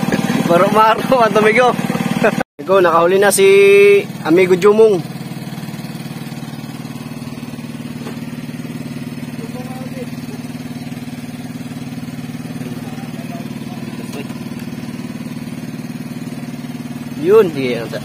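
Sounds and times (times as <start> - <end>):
small engine running steadily: 0.0 - 18.0.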